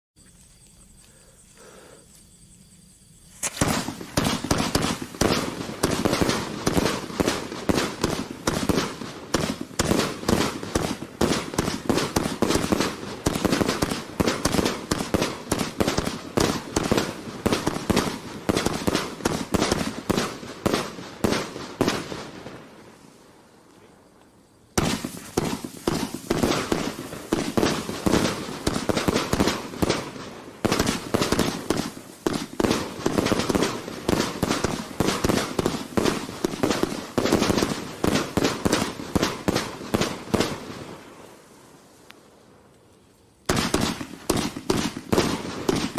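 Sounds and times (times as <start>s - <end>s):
firework barrage rapid shots: 3.4s - 22.4s, 24.8s - 40.8s, 43.5s - 45.9s.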